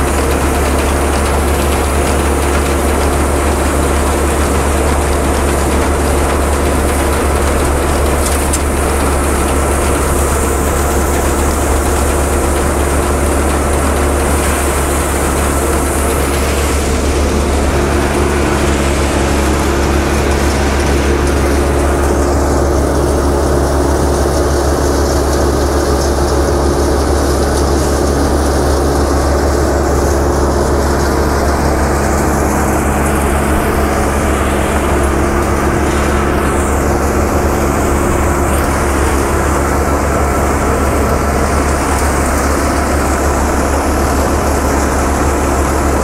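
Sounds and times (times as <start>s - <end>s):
thresher and diesel engine droning: 0.0s - 46.0s.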